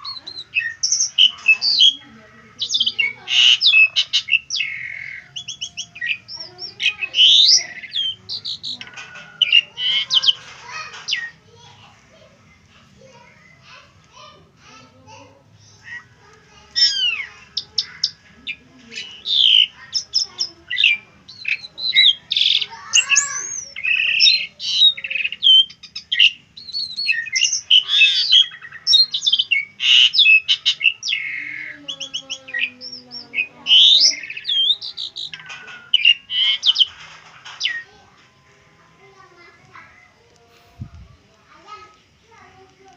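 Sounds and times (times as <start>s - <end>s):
starling singing: 0.0s - 42.9s.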